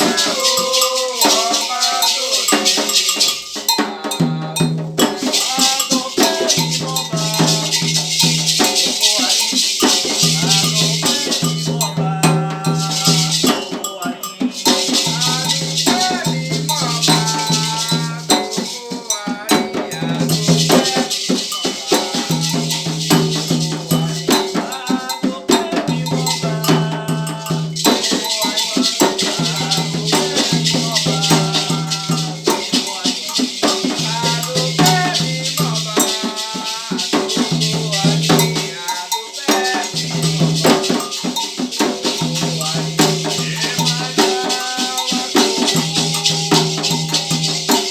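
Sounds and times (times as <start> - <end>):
rattles shaking: 0.0 - 47.9
voices chanting: 0.0 - 47.9.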